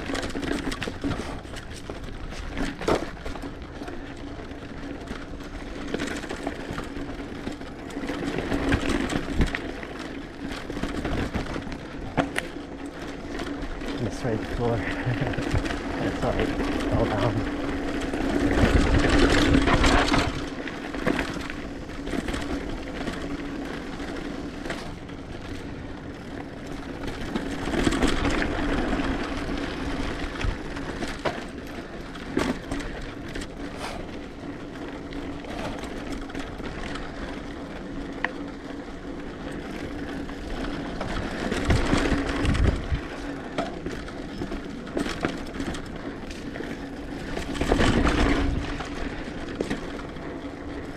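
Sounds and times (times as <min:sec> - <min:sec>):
bike rattling and clicking: 0:00.0 - 0:50.9
bike tyres on dirt: 0:00.0 - 0:50.9.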